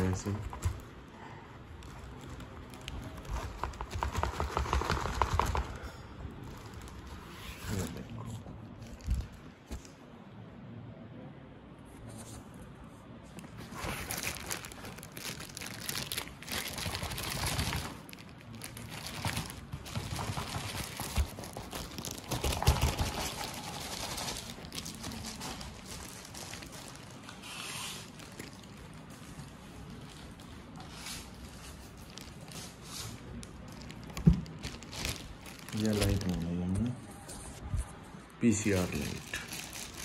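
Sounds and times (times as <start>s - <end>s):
plastic wrapping crinkling: 0.0s - 10.0s, 13.4s - 40.0s.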